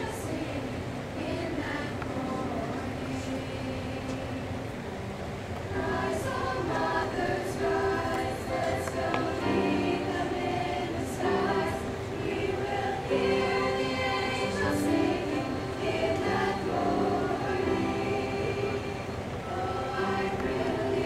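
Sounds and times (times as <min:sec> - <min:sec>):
women's choir singing in harmony: 0:00.0 - 0:21.0.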